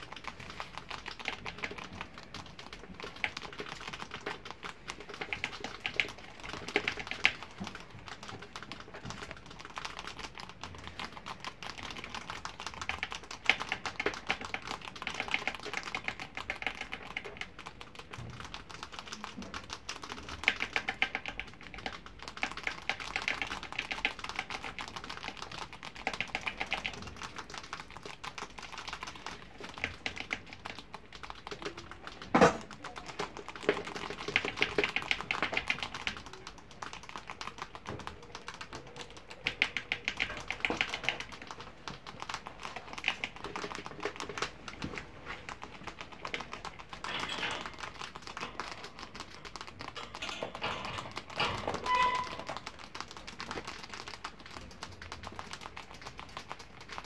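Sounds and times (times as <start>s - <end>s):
rats gnawing dry pasta: 0.0s - 57.0s.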